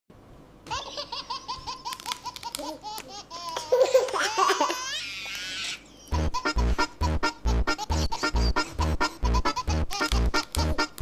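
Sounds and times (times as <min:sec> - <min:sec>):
baby laughing: 0:00.7 - 0:11.0.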